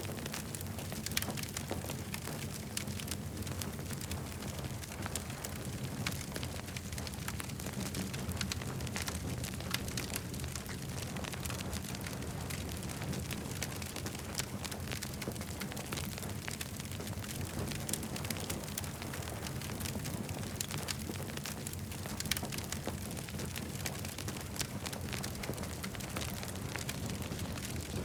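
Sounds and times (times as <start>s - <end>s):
campfire crackles and snaps: 0.0s - 28.0s
low fire rumble: 0.0s - 28.0s.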